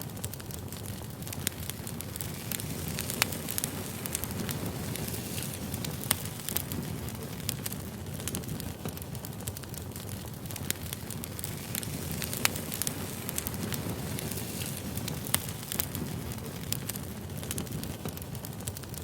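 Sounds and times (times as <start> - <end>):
fire flames rumbling: 0.0 - 19.0
firewood crackling and popping: 0.0 - 19.0.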